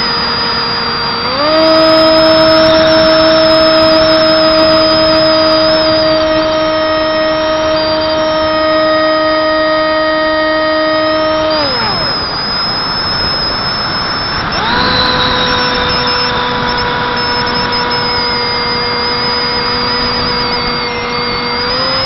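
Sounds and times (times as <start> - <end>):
electric motor propeller whine: 0.0 - 22.0.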